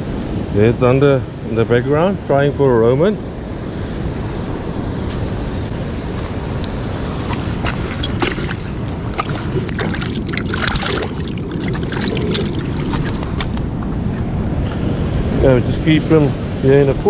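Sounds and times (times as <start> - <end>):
surf washing over rocks: 0.0 - 17.0
wind buffeting microphone: 0.0 - 17.0.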